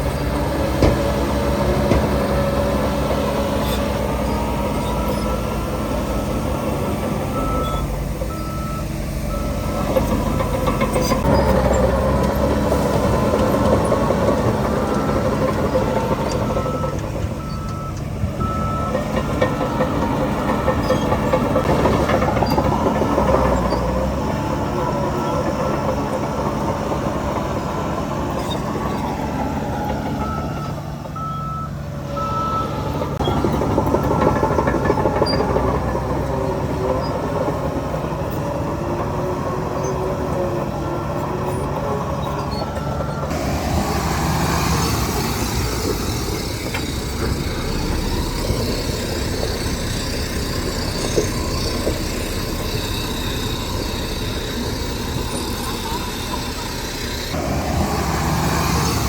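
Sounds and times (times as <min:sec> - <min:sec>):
diesel machinery running: 0:00.0 - 0:59.0
reversing alarm beeping: 0:01.2 - 0:25.9, 0:29.6 - 0:36.4, 0:41.5 - 0:57.4.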